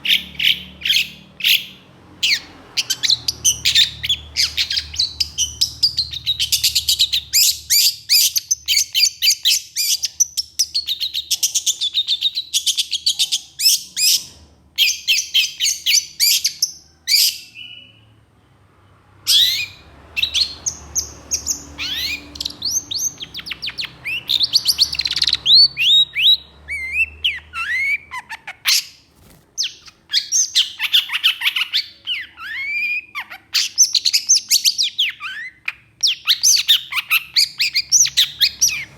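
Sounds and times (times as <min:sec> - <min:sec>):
bird chattering song: 0:00.0 - 0:18.1, 0:19.3 - 0:38.9.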